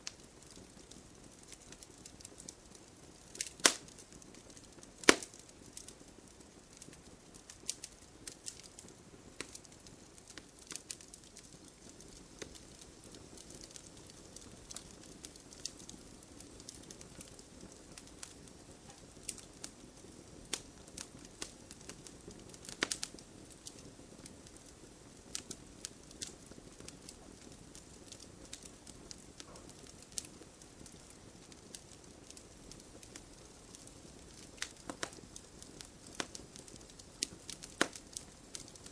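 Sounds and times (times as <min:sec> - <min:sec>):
fire crackling: 0:00.0 - 0:38.9
low steady hiss: 0:00.0 - 0:38.9.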